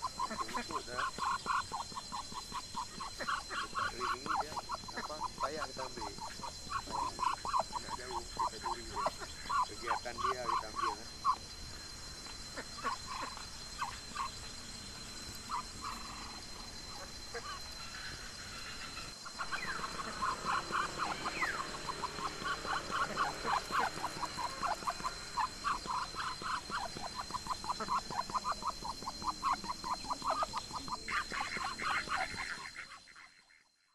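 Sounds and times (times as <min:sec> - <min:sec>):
ducks quacking: 0:00.0 - 0:33.6.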